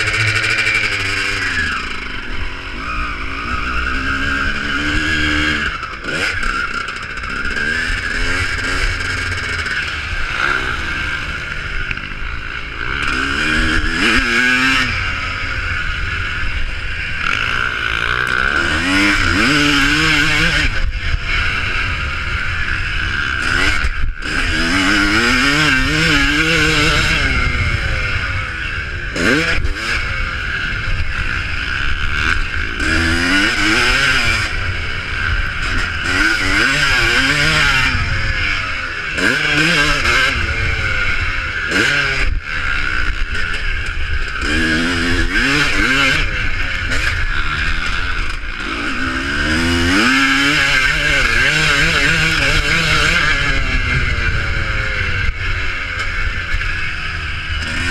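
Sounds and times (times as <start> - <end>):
motocross bike engines revving: 0.0 - 57.9.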